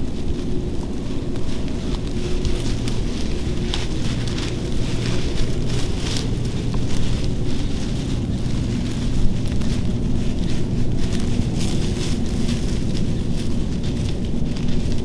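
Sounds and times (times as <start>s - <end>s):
dry rustling and crackling: 0.0s - 15.0s
wind buffeting microphone: 0.0s - 15.0s.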